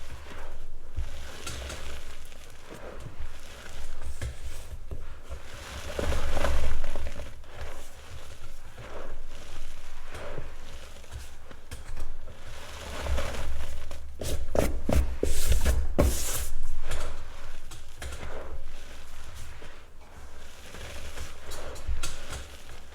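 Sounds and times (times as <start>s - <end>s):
chalk crumbling and scraping: 0.0s - 22.9s.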